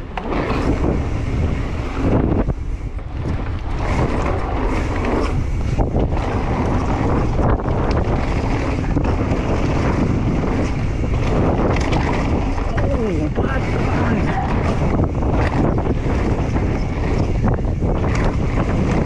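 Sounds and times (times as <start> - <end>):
bike knocking and rattling: 0.0 - 19.0
tyres rumbling on dirt: 0.0 - 19.0
wind buffeting microphone: 0.0 - 19.0.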